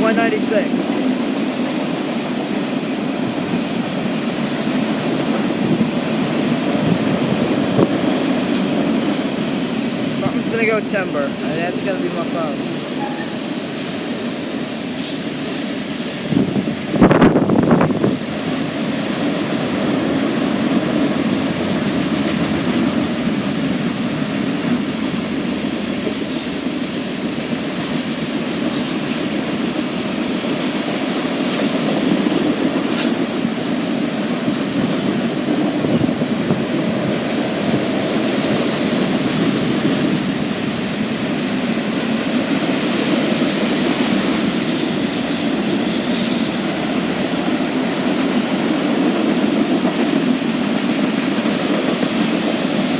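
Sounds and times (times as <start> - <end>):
freight train cars rumbling past: 0.0 - 52.9.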